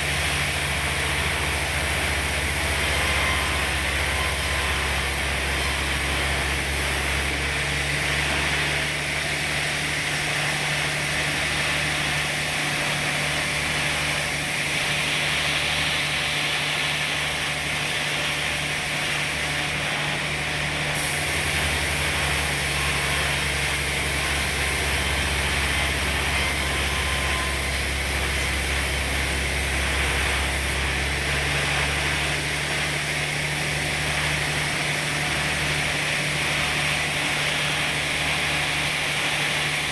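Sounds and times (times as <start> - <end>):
low machine hum: 0.0 - 39.9
saw hissing through log: 0.0 - 39.9.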